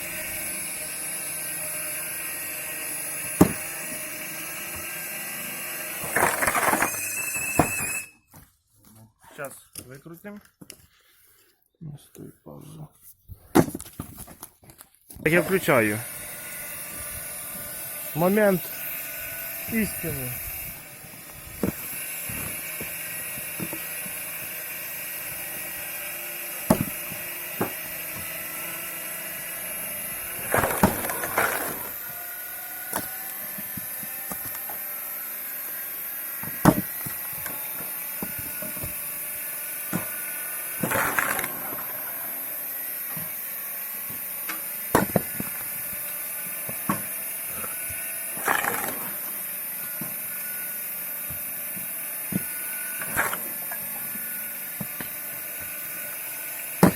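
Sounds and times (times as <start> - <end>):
wood splintering and grinding: 0.0 - 8.1, 13.5 - 56.9
electric motor whine: 0.0 - 8.2, 15.5 - 56.9.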